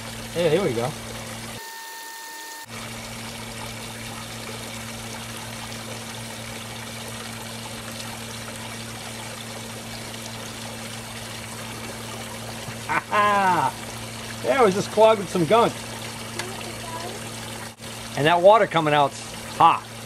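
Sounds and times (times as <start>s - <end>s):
water pouring and trickling: 0.0s - 20.0s
steady low hum: 2.7s - 20.0s.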